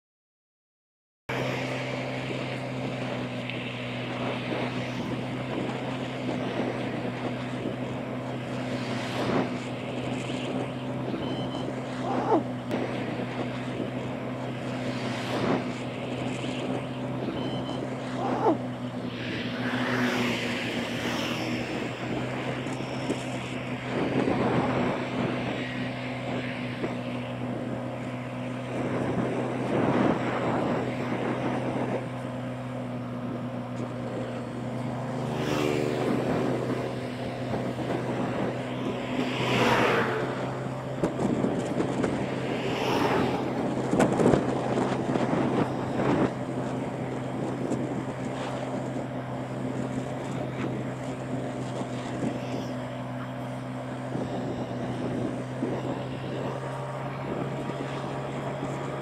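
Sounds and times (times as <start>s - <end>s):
motorbike engine humming: 1.3s - 59.0s
road noise: 1.3s - 59.0s
rushing wind: 1.3s - 59.0s.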